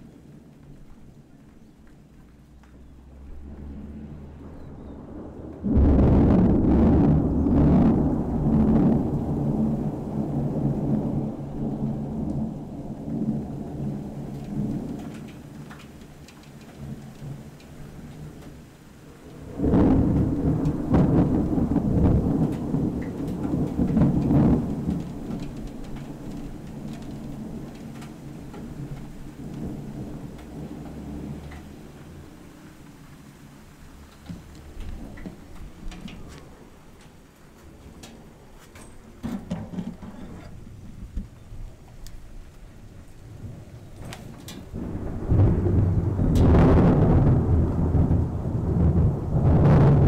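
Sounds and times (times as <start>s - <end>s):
rain falling: 0.0s - 50.0s
thunder rumbling: 0.0s - 50.0s.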